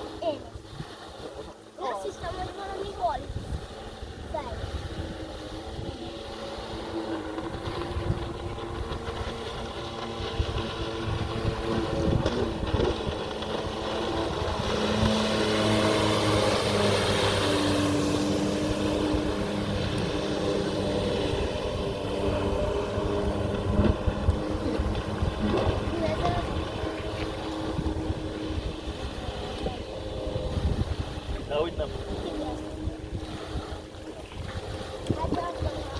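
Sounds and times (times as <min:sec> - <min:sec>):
jet ski engine running: 0:00.0 - 0:35.9
water and wind rush: 0:00.0 - 0:35.9.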